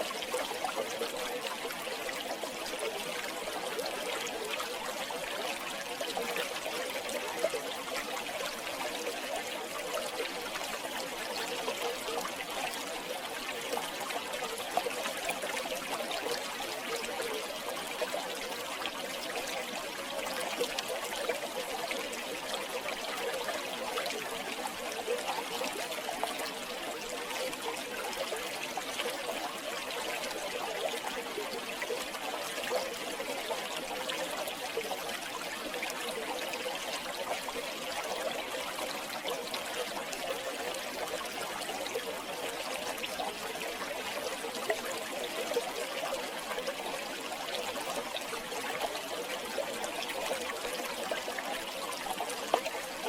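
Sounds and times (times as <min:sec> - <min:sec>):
river water flowing over stones: 0:00.0 - 0:53.0.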